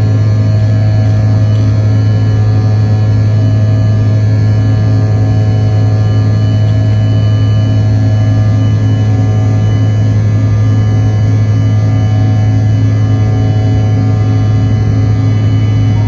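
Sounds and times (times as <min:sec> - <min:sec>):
jet engine drone inside cabin: 0:00.0 - 0:16.0.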